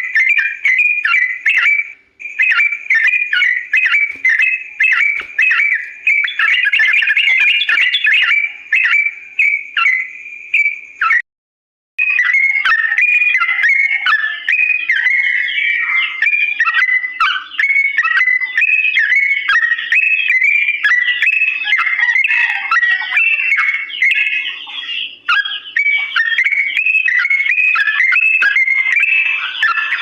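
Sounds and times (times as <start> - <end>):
bird singing whistled notes: 0.0 - 11.2, 12.0 - 30.0.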